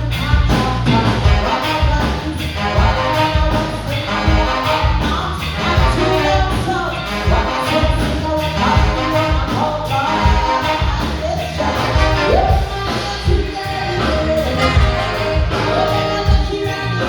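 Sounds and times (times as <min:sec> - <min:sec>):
live band playing loudly: 0:00.0 - 0:17.0.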